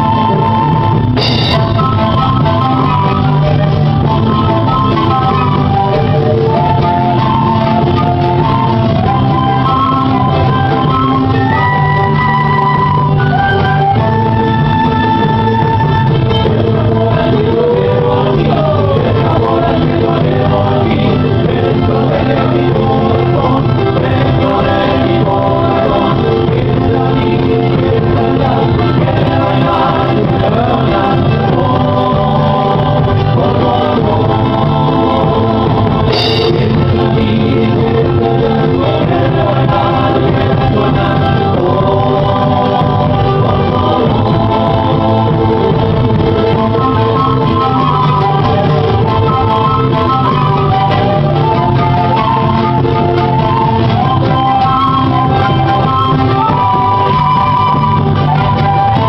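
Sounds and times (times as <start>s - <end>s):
group singing: 0.0s - 59.0s
instrumental folk accompaniment: 0.0s - 59.0s.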